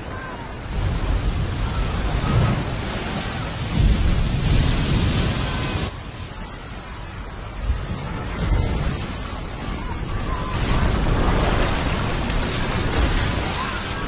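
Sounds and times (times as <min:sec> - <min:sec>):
wave breaking and rushing: 0:00.5 - 0:14.0.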